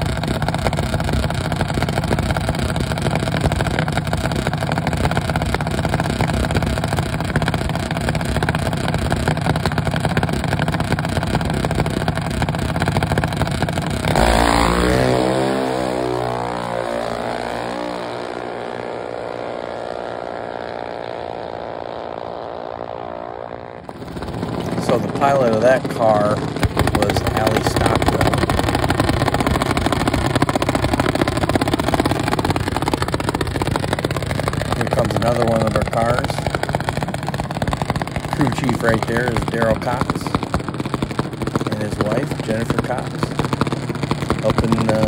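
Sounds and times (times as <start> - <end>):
dragster engine revving: 0.0 - 45.0.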